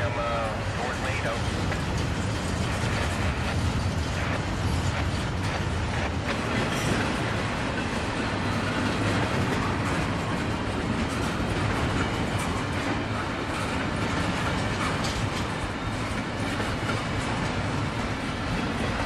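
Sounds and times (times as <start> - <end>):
diesel locomotive rumble: 0.0 - 19.0
steel wheels on rails: 0.0 - 19.0.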